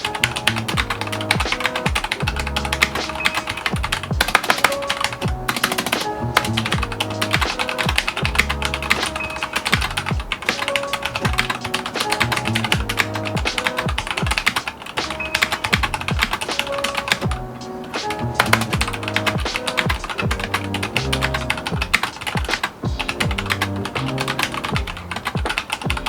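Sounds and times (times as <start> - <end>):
background music with drum beat: 0.0 - 26.0
rapid mechanical keyboard typing: 0.0 - 26.0.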